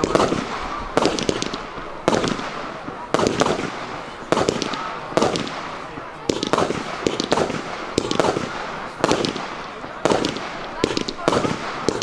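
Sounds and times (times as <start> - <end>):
firework shots with hiss and crackle: 0.0 - 12.0.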